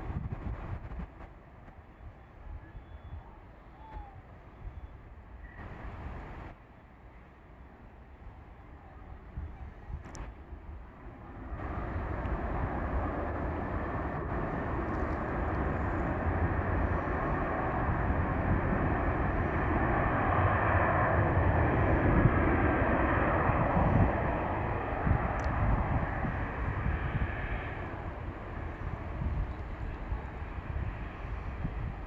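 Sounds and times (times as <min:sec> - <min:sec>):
jet airliner engine rumble: 0:00.0 - 0:32.0.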